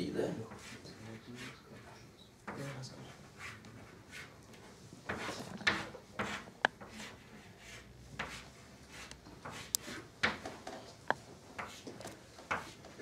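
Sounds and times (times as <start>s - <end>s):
chalk tapping on blackboard: 0.5s - 1.6s, 3.4s - 13.0s
chalk scraping on blackboard: 0.5s - 1.9s, 2.5s - 10.5s, 11.6s - 13.0s.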